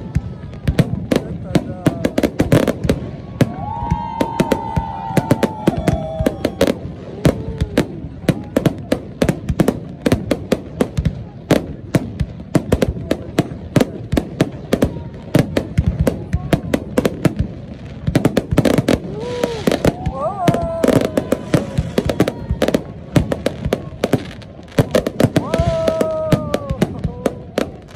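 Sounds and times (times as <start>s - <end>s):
fireworks crackle: 0.0s - 27.9s.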